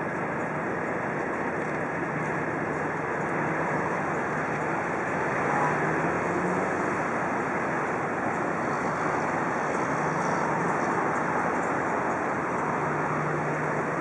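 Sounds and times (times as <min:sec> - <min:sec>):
low engine hum: 0:00.0 - 0:14.0
river water flowing: 0:00.0 - 0:14.0
road traffic: 0:00.0 - 0:14.0.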